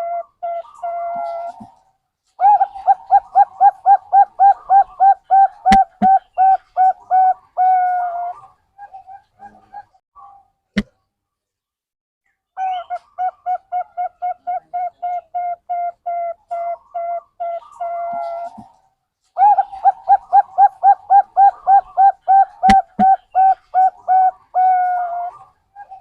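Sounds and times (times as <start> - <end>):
dove cooing: 0.0 - 1.8, 2.4 - 9.9, 12.6 - 18.7, 19.4 - 26.0.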